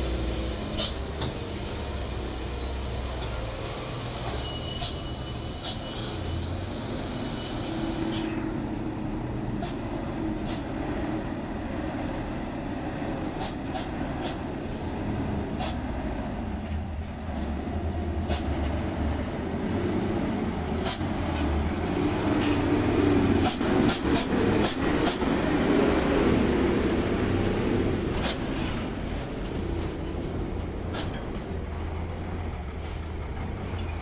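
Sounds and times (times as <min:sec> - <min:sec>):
truck diesel engines: 0:00.0 - 0:34.0.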